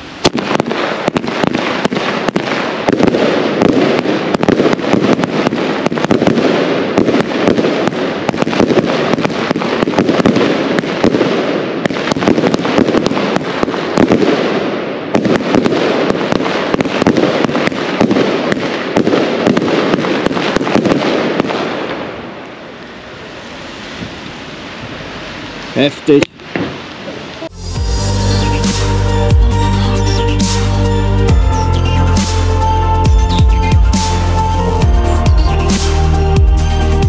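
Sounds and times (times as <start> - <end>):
fireworks bangs and crackle: 0.0 - 37.0.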